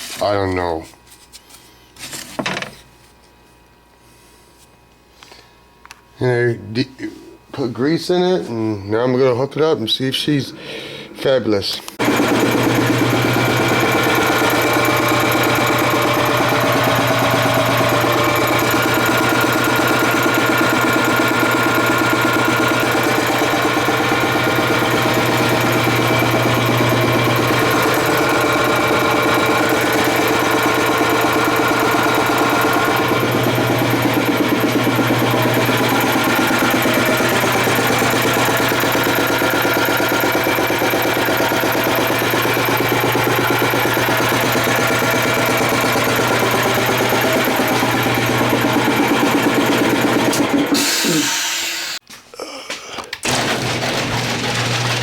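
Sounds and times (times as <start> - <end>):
air compressor running: 8.1 - 52.0, 53.2 - 55.0.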